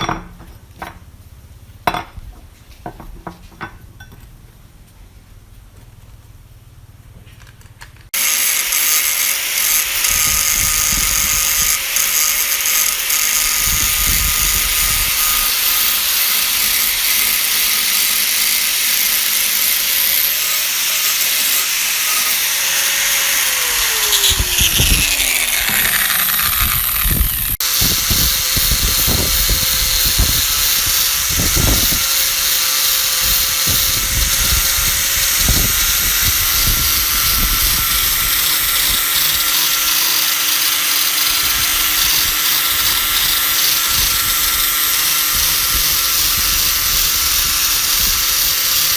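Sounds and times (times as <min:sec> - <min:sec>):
electric power tool whining: 0:08.1 - 0:48.9.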